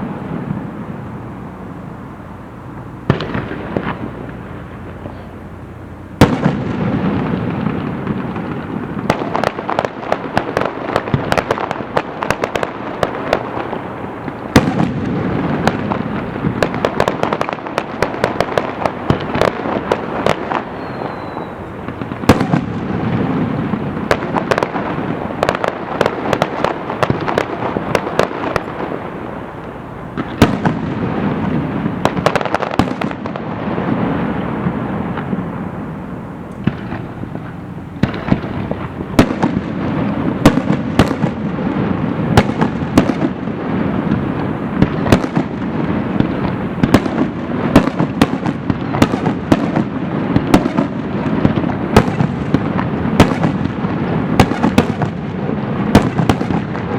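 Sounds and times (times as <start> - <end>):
firework whistle: 0.0 - 56.9
fireworks cracks and bangs: 0.0 - 56.9
rumble of fireworks booms: 0.0 - 56.9.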